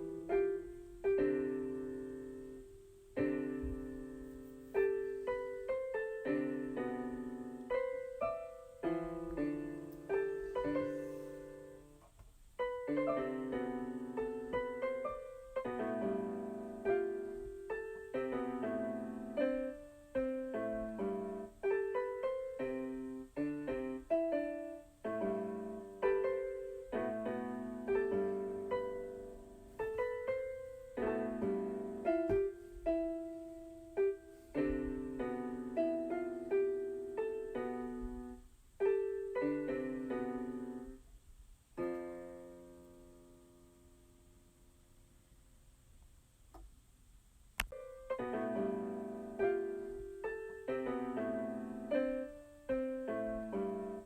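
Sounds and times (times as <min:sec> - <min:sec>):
solo piano melody: 0:00.0 - 0:45.3, 0:47.6 - 0:54.0.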